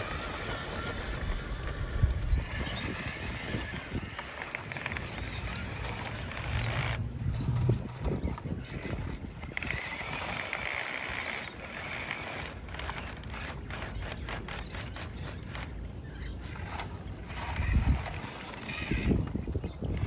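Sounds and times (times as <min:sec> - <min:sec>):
toy truck motor whine: 0:00.0 - 0:20.0
wheels clicking on stones: 0:00.0 - 0:20.0.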